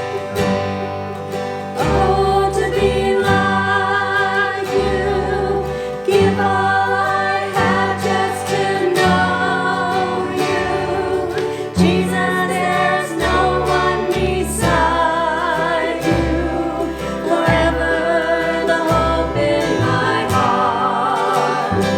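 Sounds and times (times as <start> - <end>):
gospel choir singing in harmony: 0.0 - 21.9
instrumental accompaniment with bass: 0.0 - 21.9.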